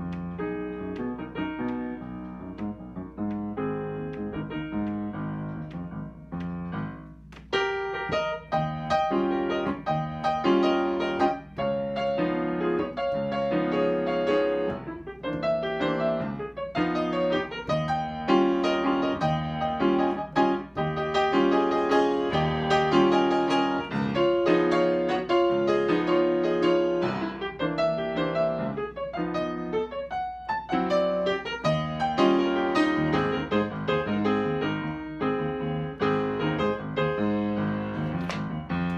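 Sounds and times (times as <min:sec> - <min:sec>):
slow upright piano piece: 0:00.0 - 0:38.9.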